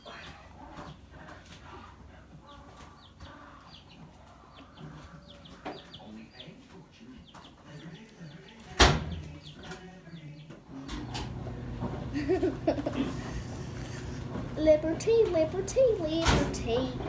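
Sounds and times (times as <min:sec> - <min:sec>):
chickens chirping: 0:00.0 - 0:16.2.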